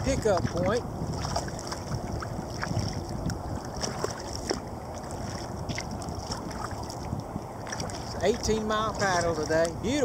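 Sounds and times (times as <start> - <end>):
paddle splashing in water: 0.0 - 10.0
wind rumble on microphone: 0.0 - 10.0.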